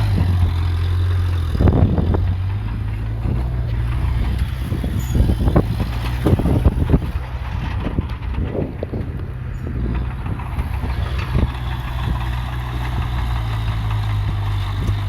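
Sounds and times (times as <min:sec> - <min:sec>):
diesel engine droning: 0:00.0 - 0:15.0
metal clanks and knocks: 0:00.0 - 0:15.0.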